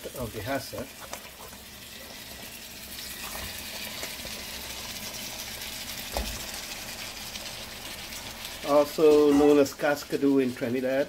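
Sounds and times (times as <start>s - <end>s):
paste sizzling in a frying pan: 0.0s - 11.0s.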